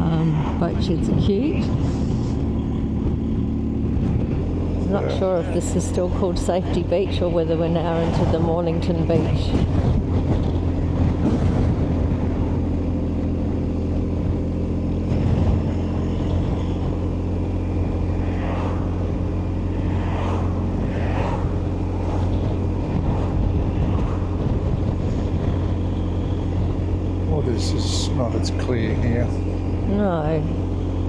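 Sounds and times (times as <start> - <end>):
motorcycle engine cruising: 0.0 - 31.0
road noise: 0.0 - 31.0.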